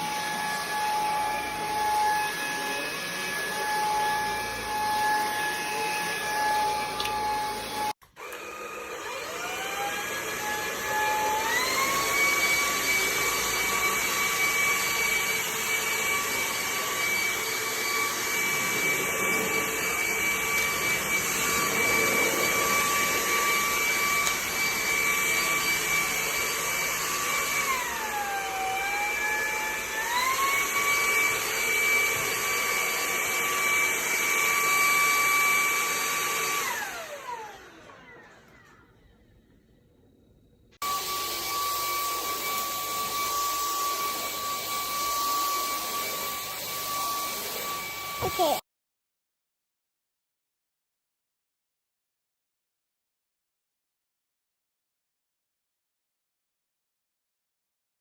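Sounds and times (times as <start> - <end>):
stick vacuum motor whining: 0.0 - 39.5, 40.8 - 48.6.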